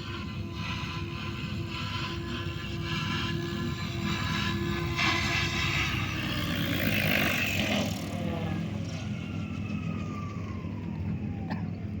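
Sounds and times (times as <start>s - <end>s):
rc helicopter motor whine: 0.0s - 12.0s.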